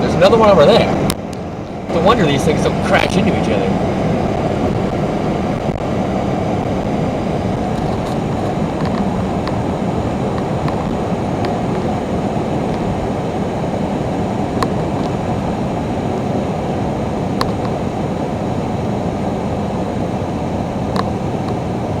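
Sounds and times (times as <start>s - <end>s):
road traffic roar: 0.0s - 22.0s.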